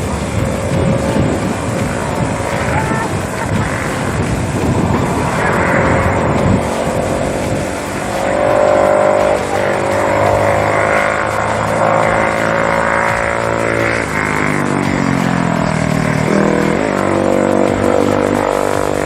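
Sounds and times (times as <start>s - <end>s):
race vehicle engine revving: 0.0s - 19.0s.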